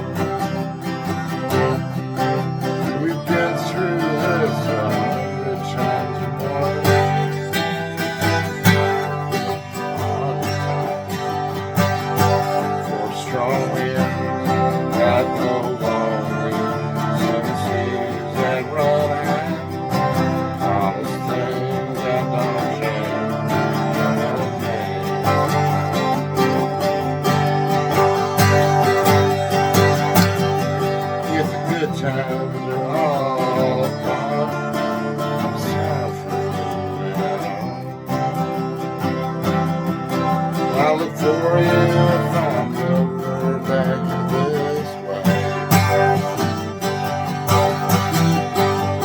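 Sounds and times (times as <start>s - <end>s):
acoustic guitar strumming chords: 0.0s - 49.0s
person singing: 0.0s - 49.0s.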